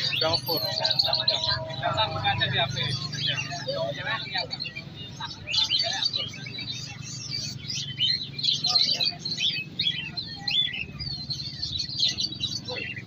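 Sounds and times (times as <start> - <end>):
songbirds chirping and whistling: 0.0 - 13.0.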